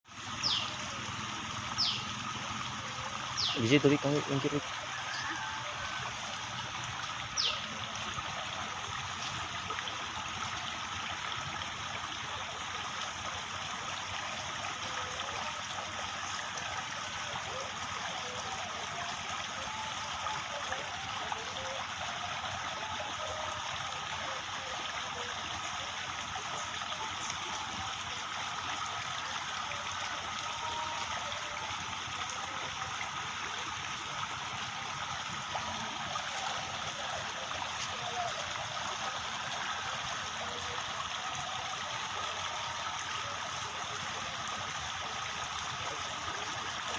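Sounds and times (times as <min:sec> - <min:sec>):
water trickling: 0:00.1 - 0:46.9.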